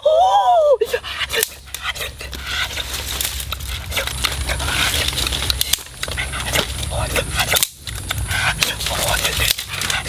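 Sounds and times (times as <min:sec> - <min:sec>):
dry twigs and leaves crunching: 0:01.3 - 0:10.0.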